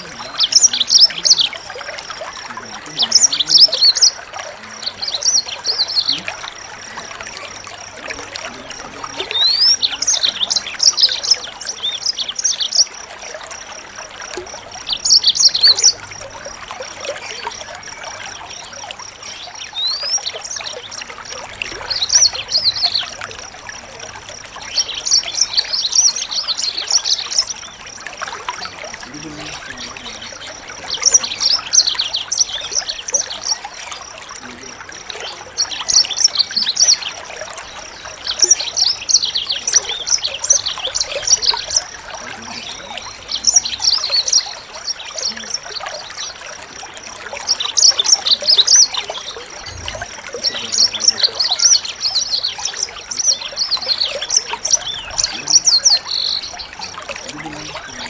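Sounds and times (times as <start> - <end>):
songbird chirping and trilling: 0.0 - 58.0
trickling water: 0.0 - 58.0.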